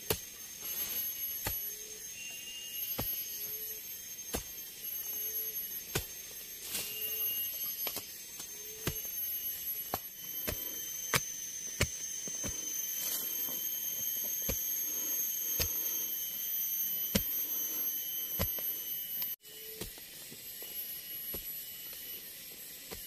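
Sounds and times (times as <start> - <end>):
hand tool chopping strokes: 0.0 - 1.8, 2.8 - 3.6, 4.2 - 22.2
insects droning: 0.0 - 23.0.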